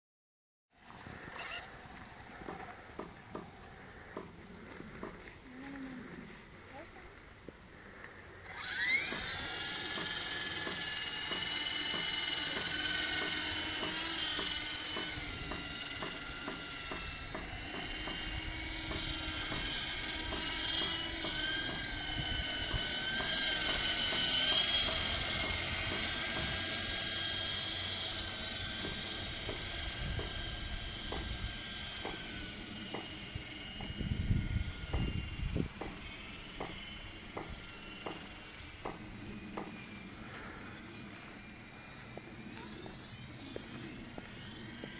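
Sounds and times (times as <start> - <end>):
model helicopter rotor whine: 0.8 - 44.9.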